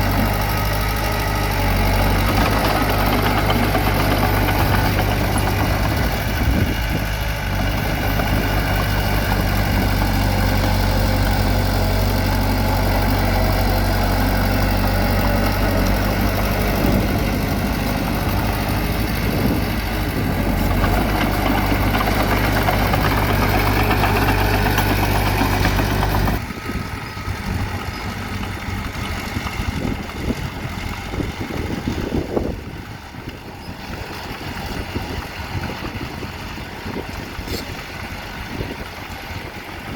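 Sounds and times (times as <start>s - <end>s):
bulldozer diesel engine humming: 0.0s - 39.9s.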